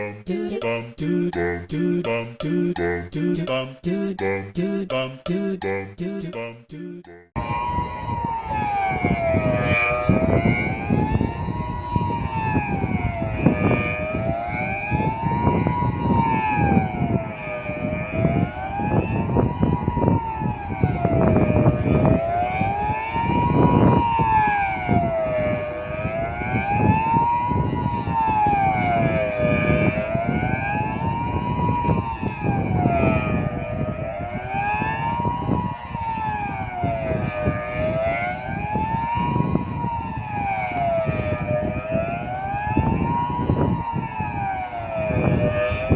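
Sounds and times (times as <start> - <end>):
siren wailing: 5.6 - 45.9.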